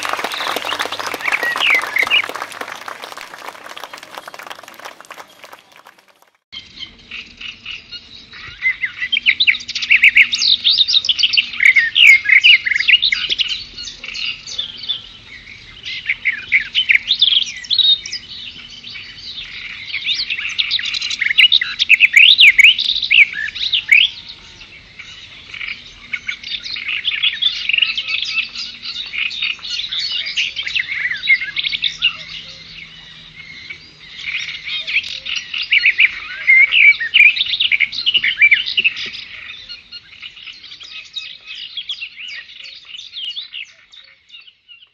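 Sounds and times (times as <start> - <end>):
birds chirping and twittering: 6.6 - 44.9.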